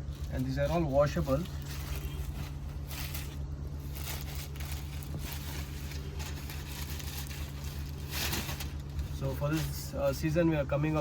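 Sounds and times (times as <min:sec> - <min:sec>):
fabric rustling: 0:00.0 - 0:09.9
steady low hum: 0:00.0 - 0:11.0.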